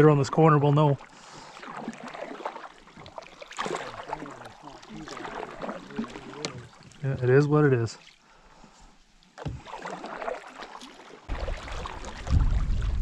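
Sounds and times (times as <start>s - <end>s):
paddle dipping in water: 0.0s - 13.0s
water lapping along hull: 0.0s - 13.0s.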